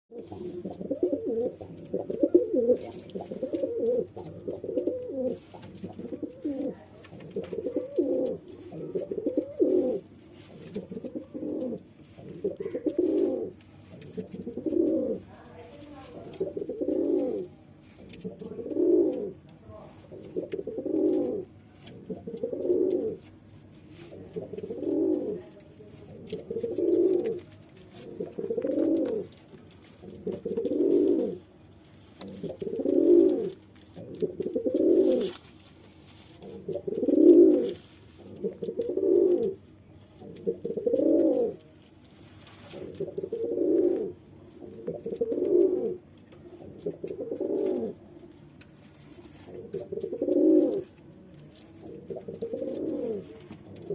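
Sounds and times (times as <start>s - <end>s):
pigeon cooing: 0.1s - 15.3s, 16.0s - 19.4s, 20.0s - 23.3s, 24.0s - 31.5s, 32.2s - 35.4s, 36.4s - 41.7s, 42.7s - 48.1s, 49.3s - 51.0s, 51.6s - 53.9s.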